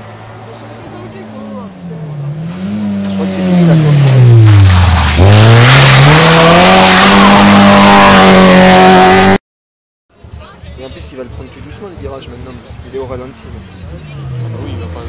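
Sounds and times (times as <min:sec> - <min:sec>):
rally car engine at high revs: 0:00.0 - 0:09.4, 0:12.3 - 0:15.0.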